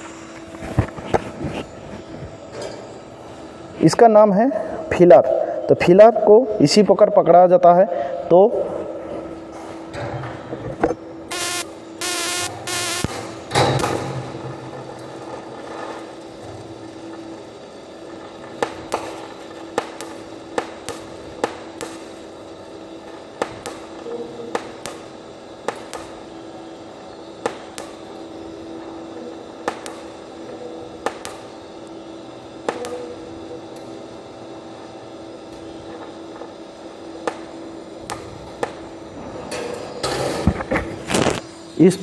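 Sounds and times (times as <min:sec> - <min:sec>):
welding arc hum: 0:00.0 - 0:42.0.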